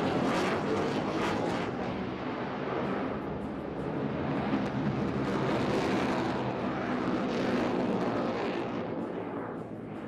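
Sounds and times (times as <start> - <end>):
jet flying overhead: 0.0 - 10.0.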